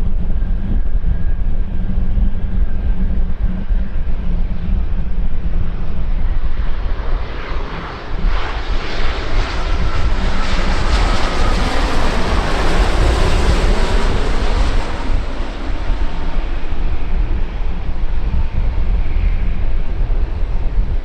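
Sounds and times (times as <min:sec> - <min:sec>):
airliner engines passing: 0:00.0 - 0:21.0
whine sinking in pitch: 0:00.0 - 0:21.0.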